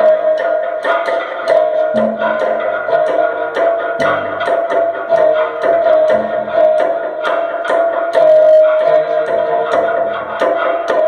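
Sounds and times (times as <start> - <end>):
steady held tone: 0.0 - 11.0
low notes: 0.9 - 11.0.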